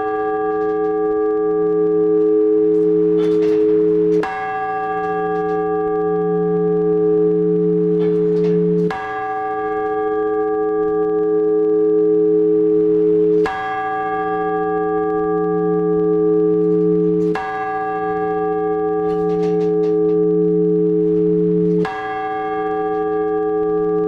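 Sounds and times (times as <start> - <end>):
large church bell ringing: 0.0 - 24.0.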